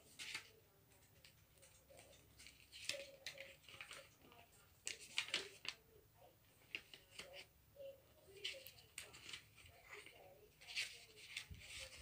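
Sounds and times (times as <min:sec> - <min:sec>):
paper pages turning: 0:00.0 - 0:05.8, 0:06.6 - 0:07.5, 0:08.3 - 0:12.0.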